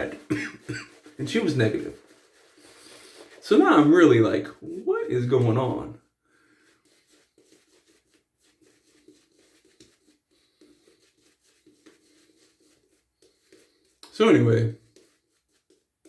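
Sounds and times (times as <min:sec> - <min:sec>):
soft scratching and ticking: 0:00.0 - 0:05.9, 0:06.6 - 0:16.0.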